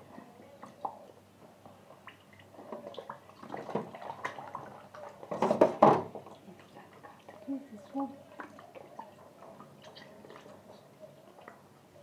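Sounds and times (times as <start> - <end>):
water dripping: 0.6 - 5.2, 6.2 - 12.0
water splashing in bowl: 2.0 - 11.7.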